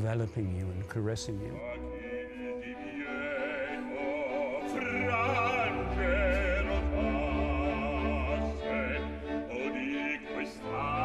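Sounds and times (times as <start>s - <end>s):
operatic bass singing: 1.2s - 11.0s.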